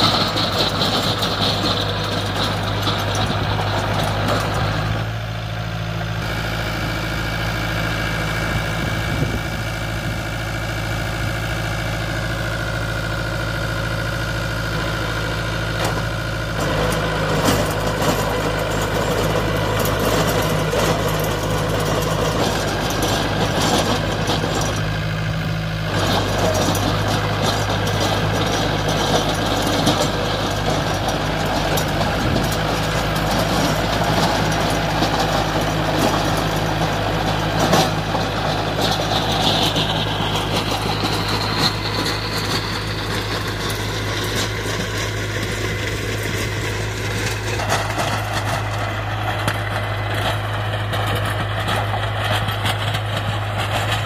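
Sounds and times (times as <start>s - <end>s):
rotary blades churning soil: 0.0s - 54.0s
tractor diesel engine running: 0.0s - 54.0s.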